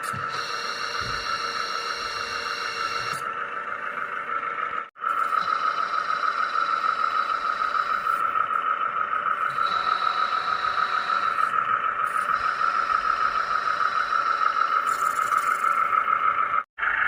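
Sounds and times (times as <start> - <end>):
higher whine: 0.0 - 17.0
hydraulic pump fluttering whine: 0.0 - 17.0.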